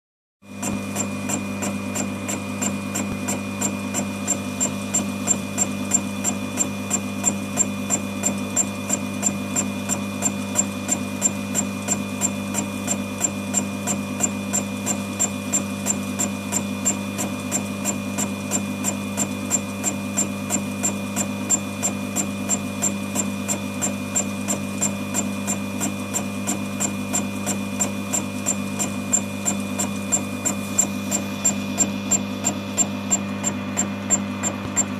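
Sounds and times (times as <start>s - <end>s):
machine motor humming: 0.5s - 34.9s
cutter ticking on metal: 0.6s - 34.9s.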